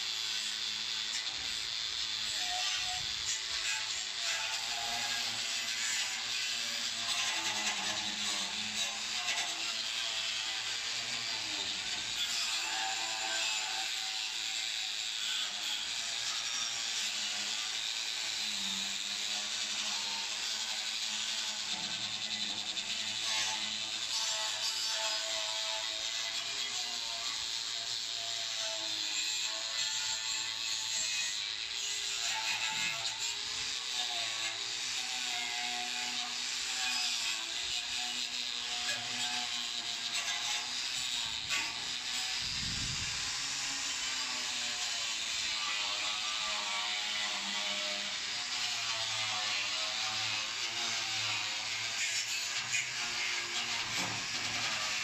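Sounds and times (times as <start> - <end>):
angle grinder on metal: 0.0 - 55.0.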